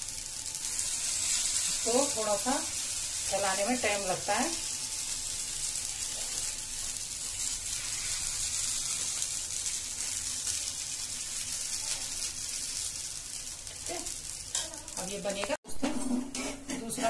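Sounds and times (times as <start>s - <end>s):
batter sizzling in oil: 0.0s - 15.6s.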